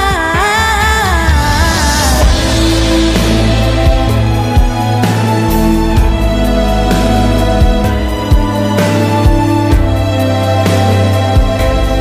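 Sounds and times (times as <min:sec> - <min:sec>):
instrumental pop-rock music: 0:00.0 - 0:12.0.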